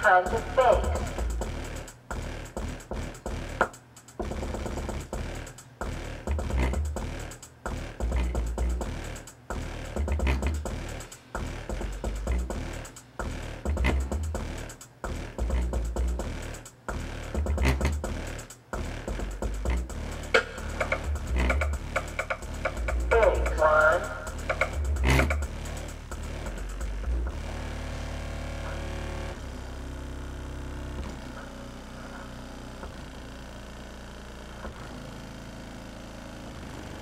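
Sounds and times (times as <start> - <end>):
woofer playing bass-heavy music: 0.0 - 37.0.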